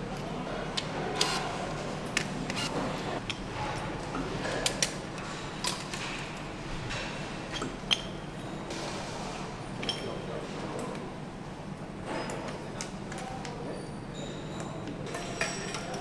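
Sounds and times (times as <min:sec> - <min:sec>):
low factory hum: 0:00.0 - 0:16.0.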